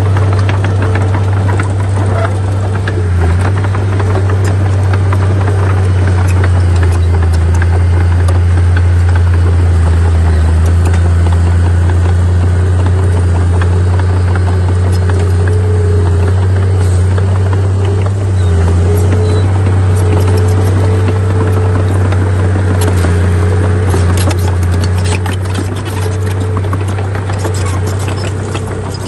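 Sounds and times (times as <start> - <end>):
diesel machinery engine hum: 0.0 - 29.0.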